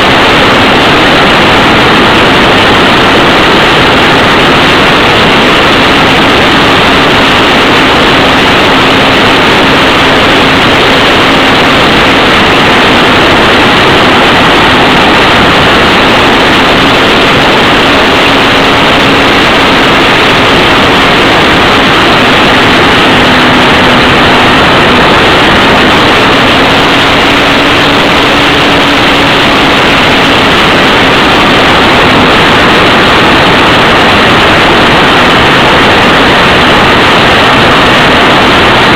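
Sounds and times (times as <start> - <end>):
faint motor hum: 0.0 - 37.7
wind and propeller rush: 0.0 - 38.9.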